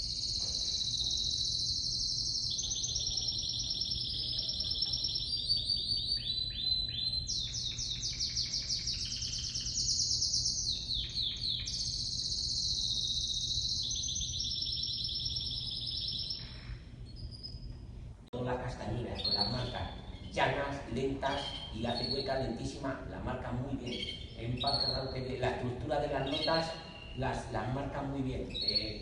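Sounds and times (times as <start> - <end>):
canary singing trills: 0.0 - 17.8, 18.4 - 29.0.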